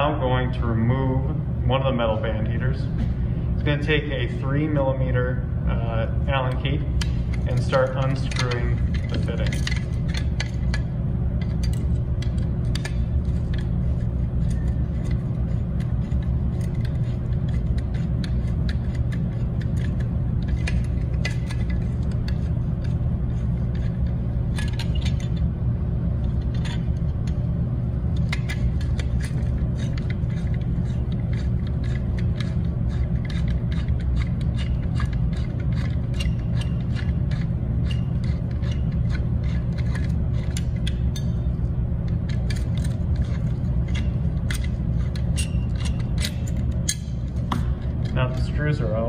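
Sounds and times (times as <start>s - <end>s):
loud steady low hum: 0.0s - 49.0s
hex key clicking and scraping: 6.6s - 48.4s.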